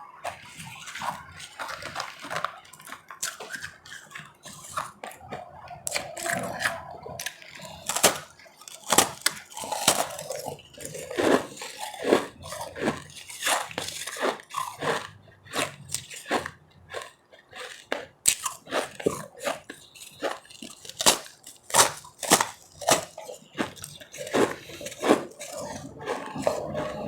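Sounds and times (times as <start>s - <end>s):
chewing and crunching ice: 0.0s - 27.0s.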